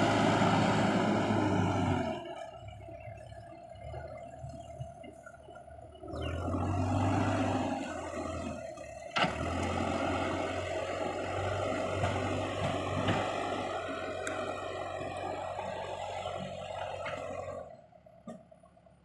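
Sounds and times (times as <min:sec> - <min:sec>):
diesel engine revving: 0:00.0 - 0:18.3.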